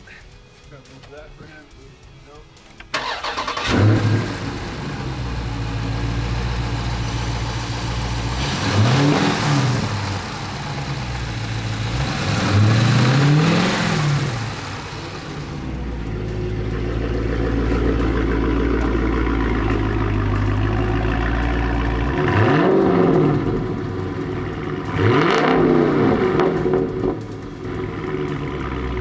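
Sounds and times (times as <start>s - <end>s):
car engine idling and revving: 2.9s - 29.0s.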